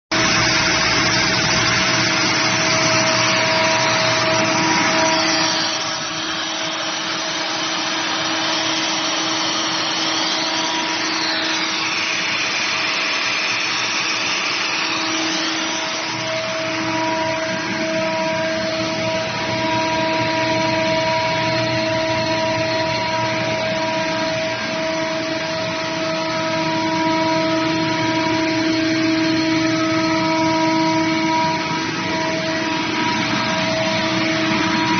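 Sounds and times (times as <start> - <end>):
air compressor humming and whining: 0.1 - 34.9.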